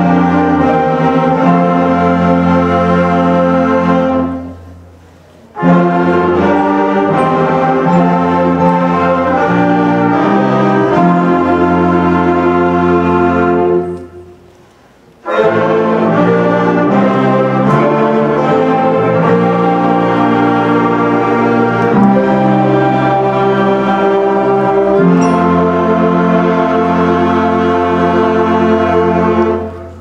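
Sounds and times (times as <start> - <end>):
concert band playing slow chorale: 0.0 - 30.0
hall reverberation: 0.0 - 30.0.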